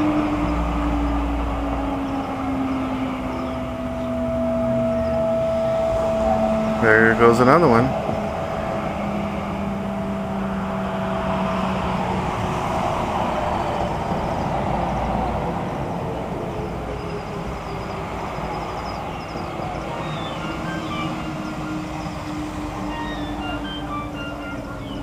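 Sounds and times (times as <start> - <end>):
vehicle driving past: 0.0 - 25.0.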